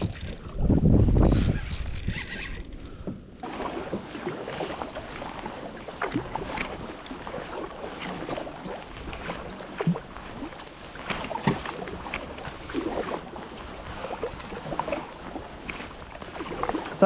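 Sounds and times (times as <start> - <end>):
water lapping against kayak hull: 0.0 - 17.0
wind buffeting microphone: 0.0 - 17.0.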